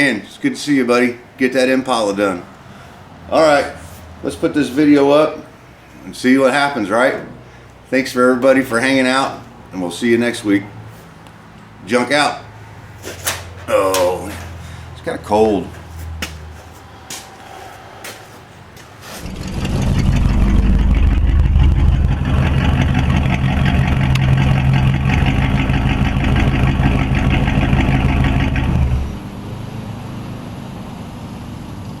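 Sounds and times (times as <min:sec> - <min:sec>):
engine running: 0:01.9 - 0:32.0.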